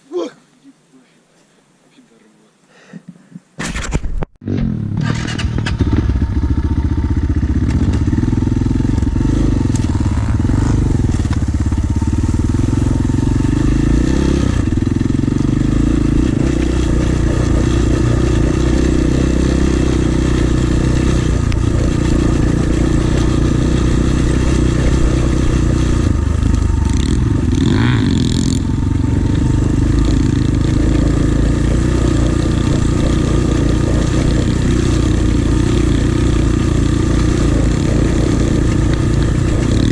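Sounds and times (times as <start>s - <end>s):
pit bike engine running: 4.6s - 39.9s.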